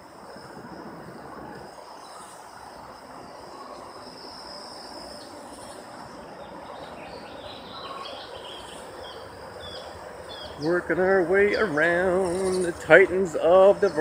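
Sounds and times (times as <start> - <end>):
broad background hiss: 0.0 - 14.0
high insect trill: 0.0 - 14.0.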